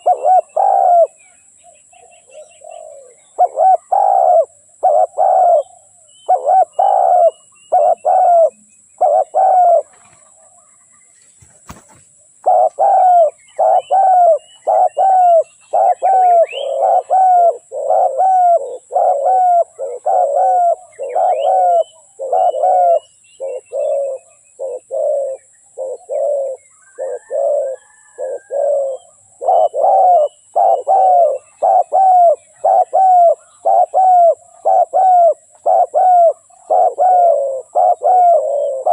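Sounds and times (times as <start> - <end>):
dove cooing: 0.0 - 1.2, 1.8 - 10.8, 11.7 - 38.9
small birds chirping: 0.0 - 38.9.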